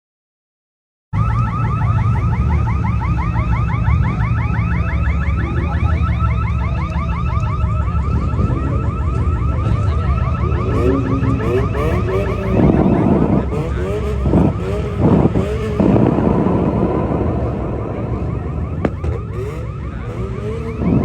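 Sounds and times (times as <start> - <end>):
car alarm chirping: 1.2 - 21.0
engines rumbling: 1.2 - 21.0.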